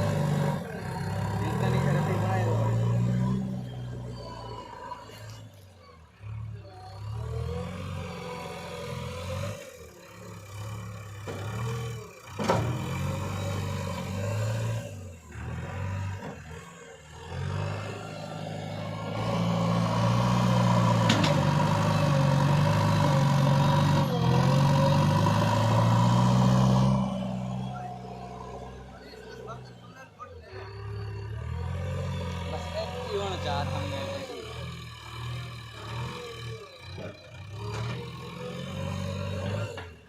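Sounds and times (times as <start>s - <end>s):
diesel engine working hydraulics: 0.0s - 40.0s.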